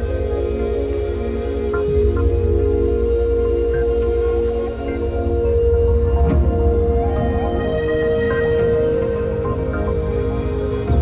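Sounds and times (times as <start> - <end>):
ambient music with drone: 0.0 - 11.0.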